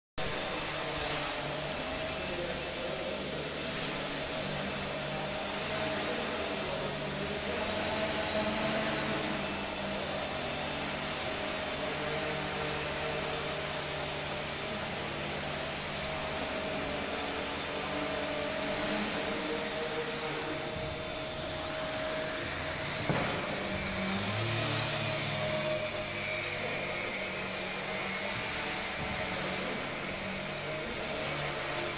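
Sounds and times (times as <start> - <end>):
electric motor and propeller whine: 0.2 - 31.9.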